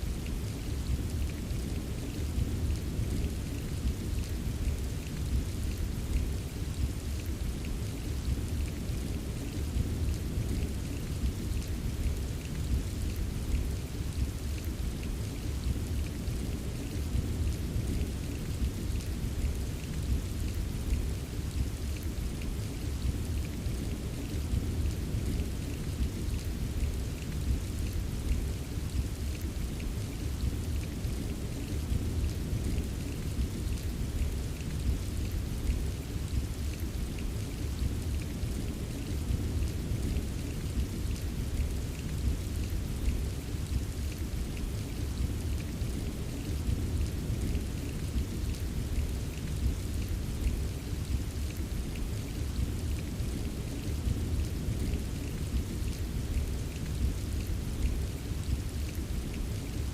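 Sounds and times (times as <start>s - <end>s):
heavy rain: 0.0s - 59.9s
raindrops pattering on a surface: 0.0s - 59.9s.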